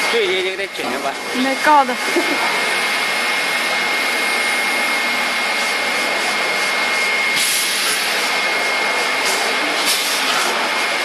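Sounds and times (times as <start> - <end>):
packaging machine running: 1.3 - 11.0.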